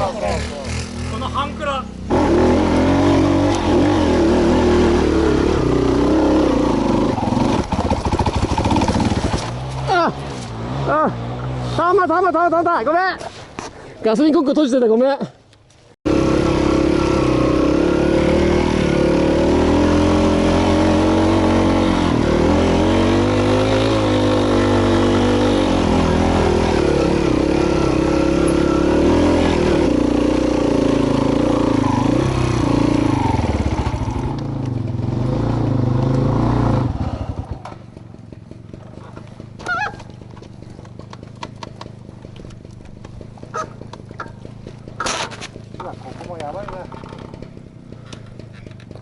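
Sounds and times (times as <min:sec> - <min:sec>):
motorcycle engine revving: 0:00.0 - 0:11.9, 0:16.1 - 0:49.0.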